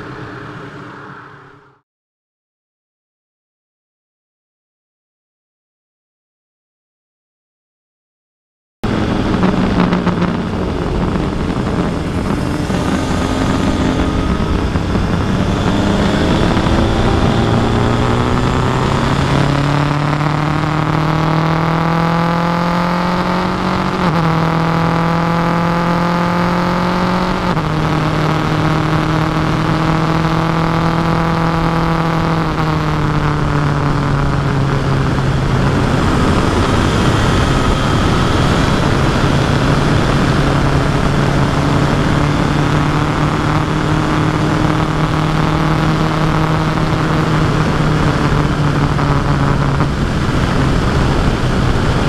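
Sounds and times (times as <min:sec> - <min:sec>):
motorcycle engine: 0:08.8 - 0:52.0
wind noise: 0:08.8 - 0:52.0.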